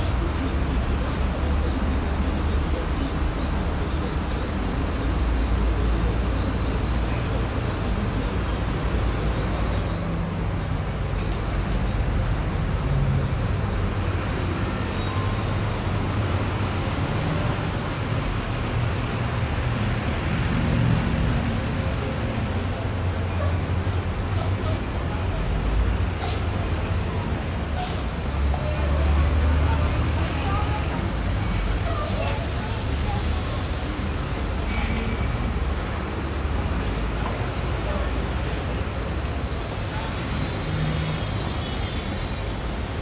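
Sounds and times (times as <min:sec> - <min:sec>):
crowd of pedestrians talking: 0:00.0 - 0:43.0
road traffic rumble: 0:00.0 - 0:43.0.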